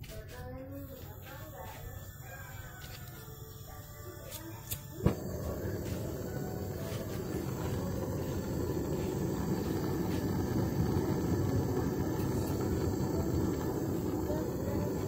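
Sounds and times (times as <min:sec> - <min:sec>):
gas torch flame rushing: 0:00.8 - 0:15.0.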